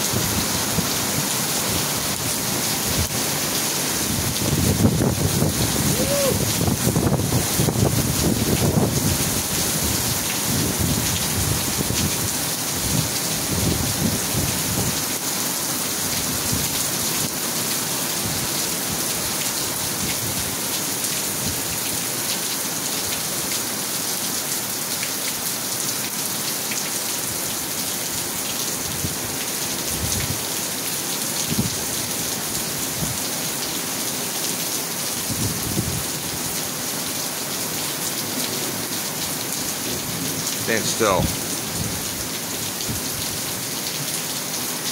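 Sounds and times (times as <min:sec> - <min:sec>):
heavy rain on pavement and roof: 0:00.0 - 0:44.9.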